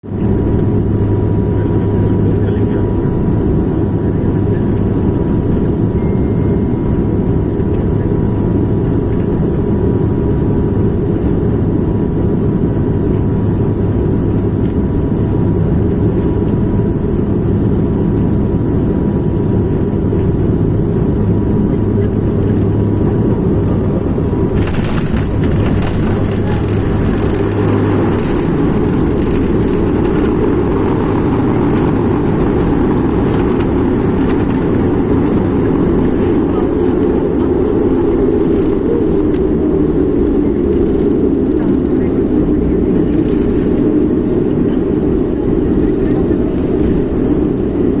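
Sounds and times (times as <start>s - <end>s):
airplane engine roar: 0.0s - 48.0s
low hum: 0.0s - 48.0s.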